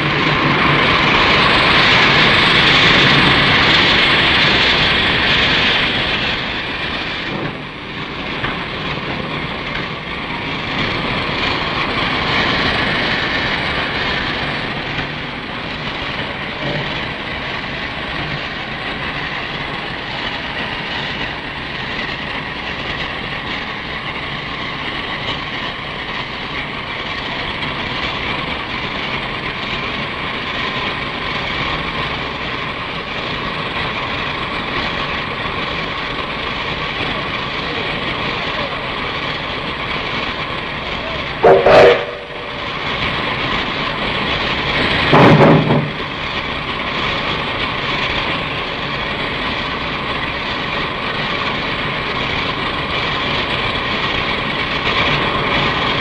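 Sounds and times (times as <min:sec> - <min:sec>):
locomotive running gear: 0:00.0 - 0:56.0
steam hissing: 0:00.0 - 0:56.0.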